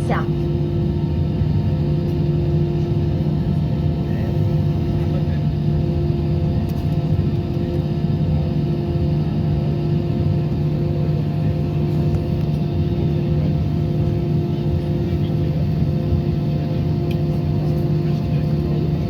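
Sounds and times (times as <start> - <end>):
aircraft engines idling: 0.0 - 19.0.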